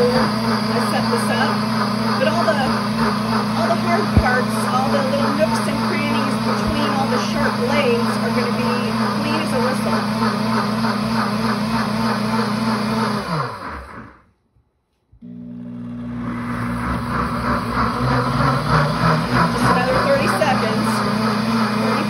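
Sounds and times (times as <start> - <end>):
blender motor churning water: 0.0 - 14.3, 15.2 - 22.0.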